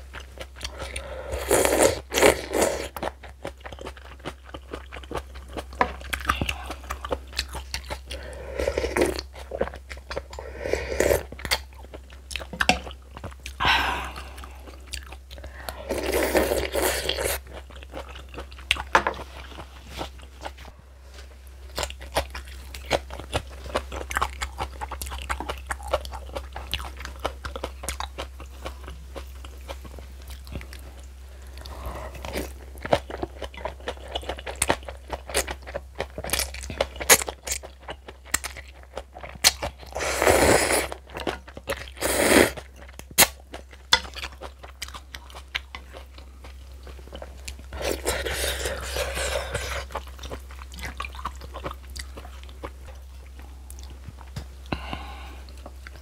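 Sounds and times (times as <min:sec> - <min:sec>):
person crunching and chewing food: 0:00.0 - 0:20.8, 0:21.6 - 0:56.0.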